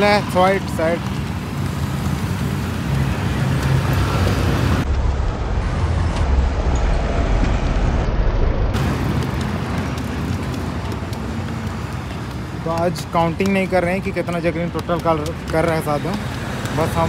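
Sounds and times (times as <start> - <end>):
street noise low rumble: 0.0 - 17.0.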